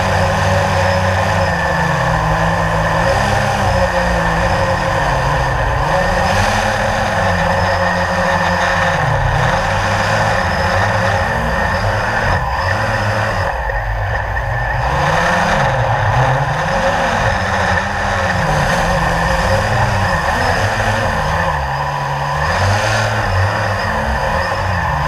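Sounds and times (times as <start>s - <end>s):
drone propellers buzzing whine: 0.0s - 25.0s.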